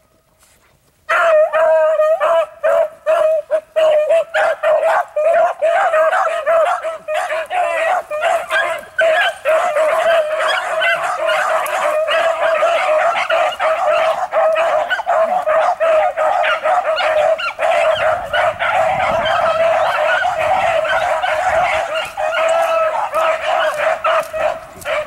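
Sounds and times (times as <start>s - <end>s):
hounds baying and yipping: 1.1s - 25.0s.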